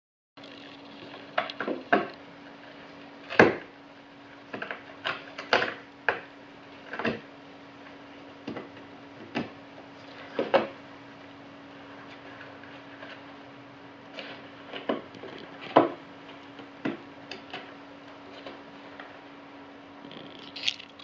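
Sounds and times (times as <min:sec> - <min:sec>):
steady low hum: 0:00.4 - 0:21.0.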